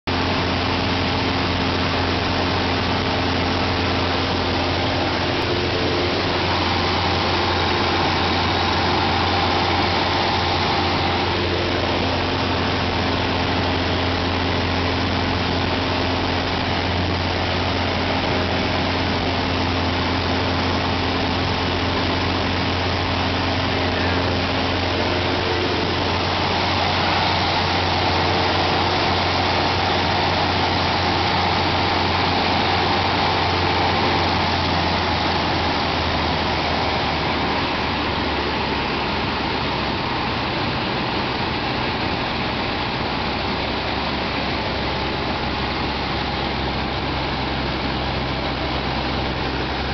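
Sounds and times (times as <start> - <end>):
light aircraft engine drone: 0.1 - 49.9.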